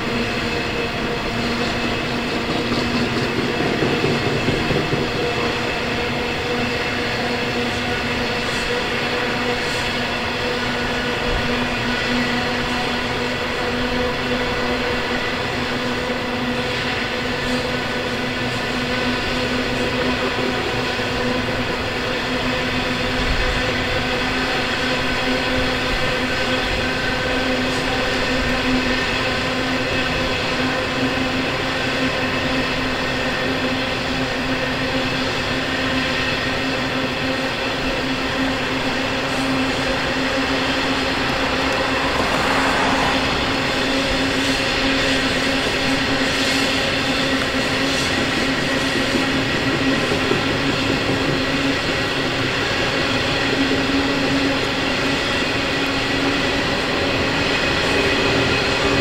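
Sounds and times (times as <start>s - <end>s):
freight train passing: 0.0s - 59.0s.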